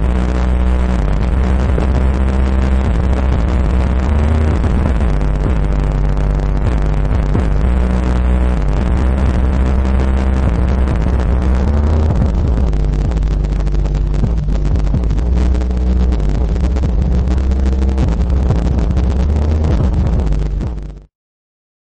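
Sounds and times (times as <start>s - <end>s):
subwoofers playing loud bass song: 0.0s - 21.1s.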